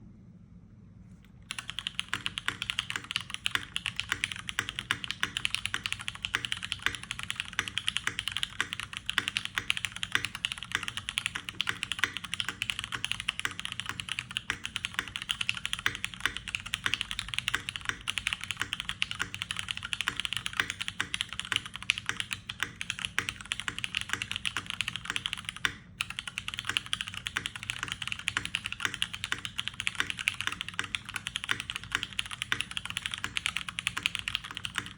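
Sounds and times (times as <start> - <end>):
mechanical keyboard typing: 1.5 - 34.9.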